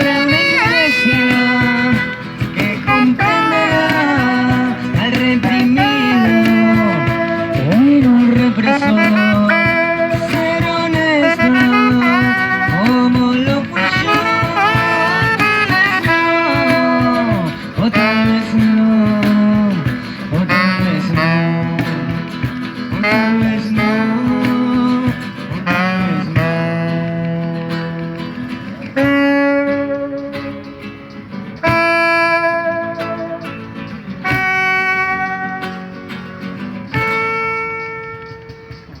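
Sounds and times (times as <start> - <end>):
instrumental band music: 0.0 - 39.0.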